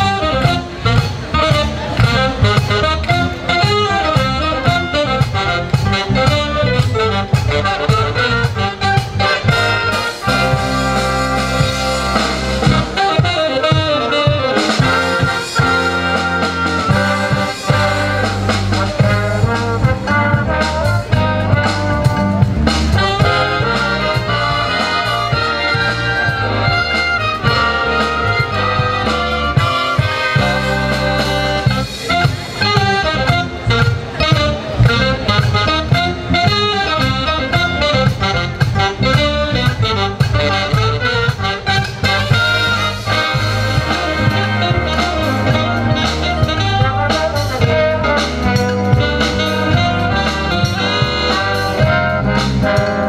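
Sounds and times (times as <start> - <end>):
brass band playing: 0.0 - 53.0
steady drum beat: 0.0 - 53.0.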